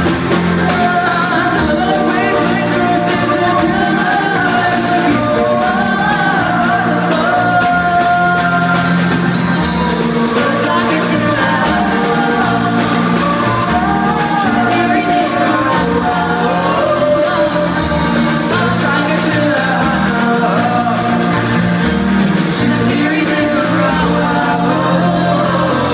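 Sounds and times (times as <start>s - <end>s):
live band playing: 0.0s - 25.9s
person singing: 0.0s - 25.9s.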